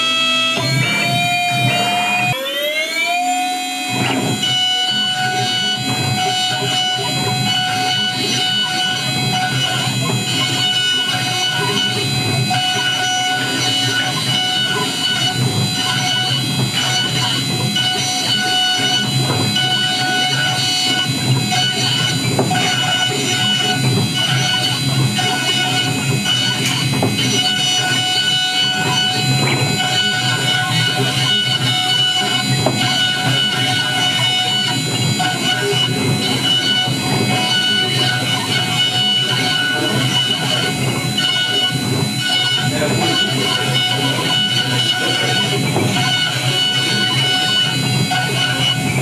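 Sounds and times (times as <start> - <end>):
cutter cutting metal: 0.0 - 49.0
milling machine spindle whining: 0.0 - 49.0
steady high-pitched tones: 0.0 - 49.0.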